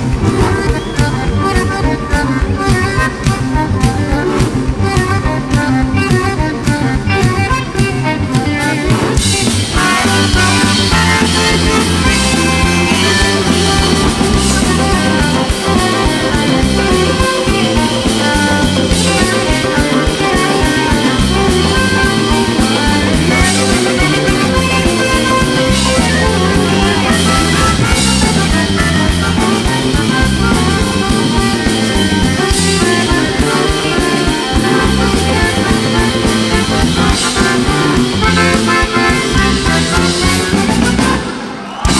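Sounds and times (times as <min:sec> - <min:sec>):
button accordion lead: 0:00.0 - 0:41.9
drum kit: 0:00.0 - 0:41.9
electric bass: 0:00.0 - 0:41.9
electric guitar: 0:00.0 - 0:41.9.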